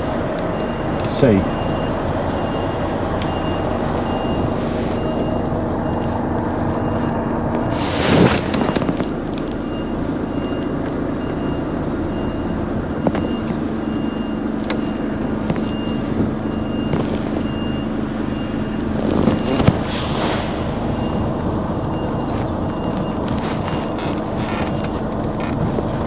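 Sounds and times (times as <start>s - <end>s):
reversing alarm beeping: 0.0s - 25.7s
lorry diesel engine running: 0.0s - 26.0s.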